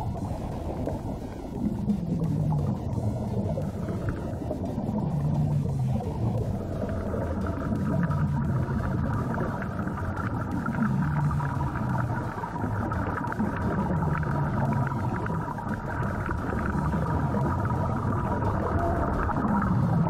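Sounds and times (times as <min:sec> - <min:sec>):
muffled underwater rumble: 0:00.0 - 0:20.0
steady thin hum: 0:00.0 - 0:20.0.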